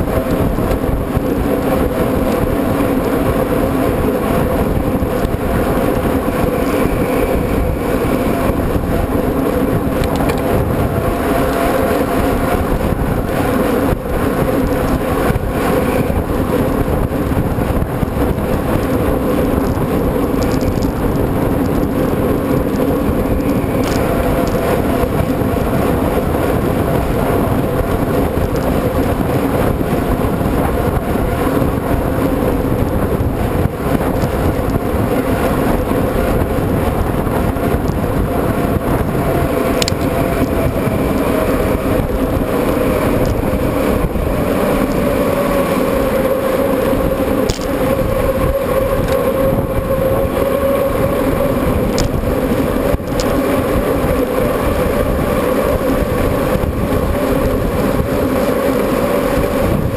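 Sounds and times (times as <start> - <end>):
bike tyres rolling: 0.0 - 59.9
even hum: 0.0 - 59.9
wind noise: 0.0 - 59.9.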